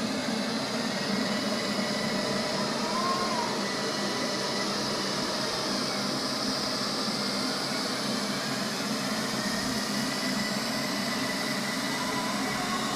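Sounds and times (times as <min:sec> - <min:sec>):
robot vacuum cleaner running: 0:00.0 - 0:12.9.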